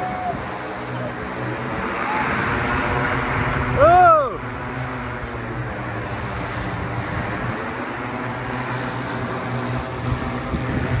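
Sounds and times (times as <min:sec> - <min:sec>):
drone propellers humming: 0:00.0 - 0:11.0.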